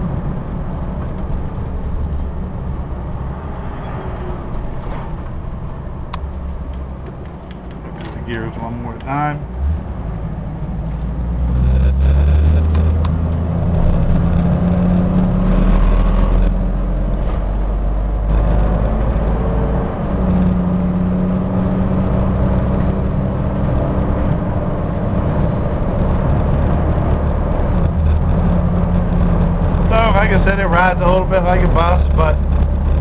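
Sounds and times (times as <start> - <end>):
road noise: 0.0 - 33.0
van engine pulling through gears: 0.0 - 33.0.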